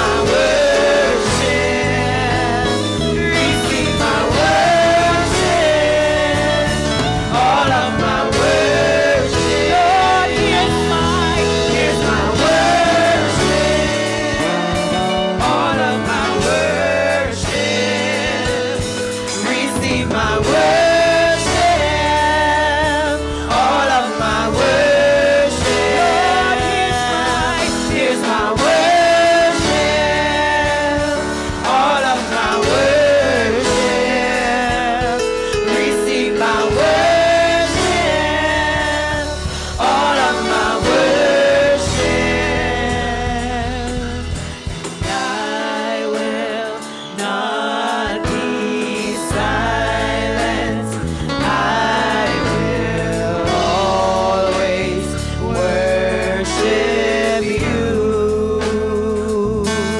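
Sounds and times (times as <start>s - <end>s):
instrumental backing: 0.0s - 59.9s
women singing gospel: 0.0s - 59.9s.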